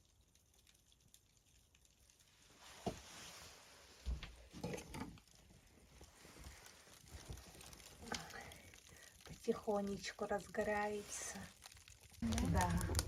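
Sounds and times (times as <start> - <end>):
fire hissing as kindling catches: 2.3 - 13.0.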